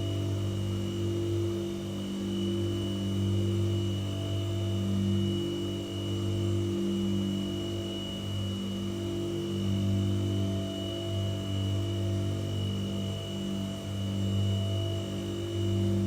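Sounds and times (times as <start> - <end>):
white noise machine hum and hiss: 0.0 - 16.0.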